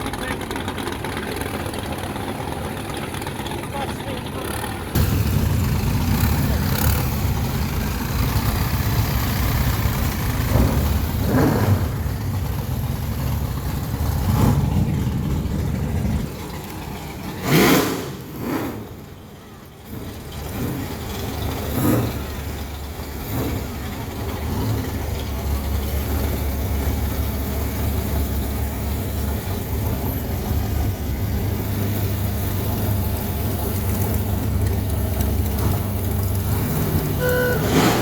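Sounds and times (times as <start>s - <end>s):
car engine rumbling: 0.0s - 38.0s.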